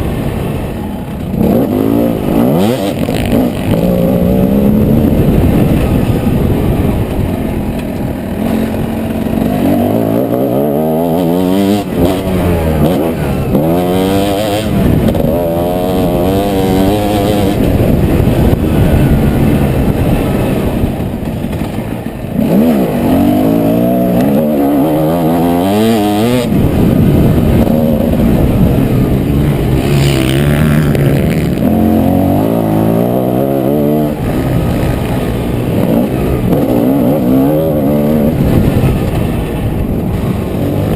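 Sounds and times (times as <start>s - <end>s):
motocross bike engine revving: 1.3s - 40.9s.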